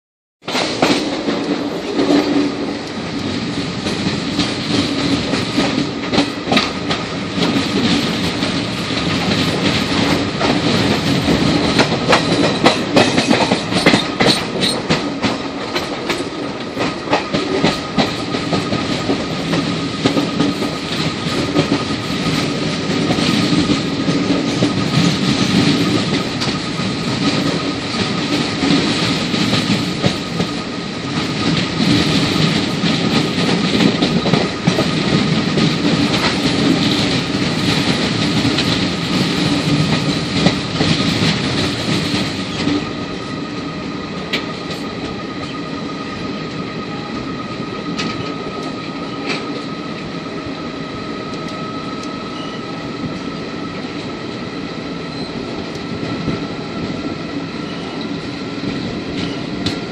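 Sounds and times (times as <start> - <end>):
train rumble from inside coach: 0.4 - 59.9.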